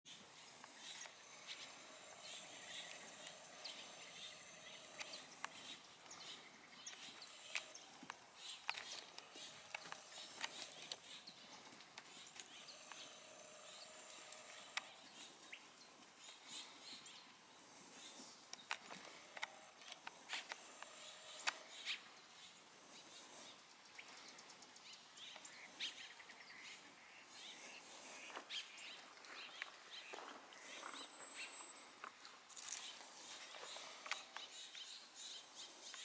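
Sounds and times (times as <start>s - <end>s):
faint steady hiss: 0.1s - 36.0s.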